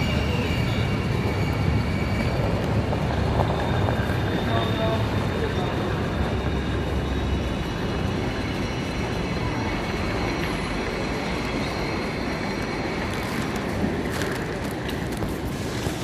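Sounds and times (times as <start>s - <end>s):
high-speed train rumbling: 0.0s - 16.0s.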